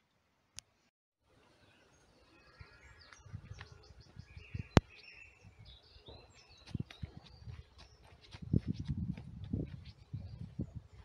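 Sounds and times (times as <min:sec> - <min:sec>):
birds chirping: 0:00.7 - 0:11.0.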